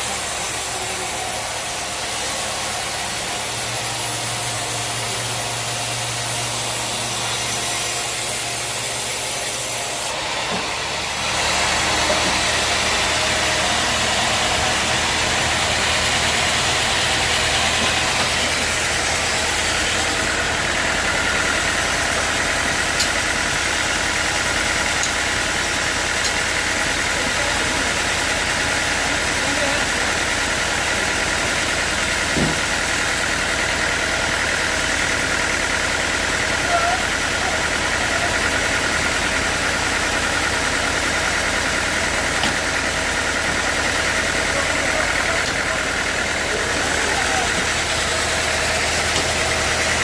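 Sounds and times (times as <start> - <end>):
sawmill machinery humming: 0.0 - 50.0.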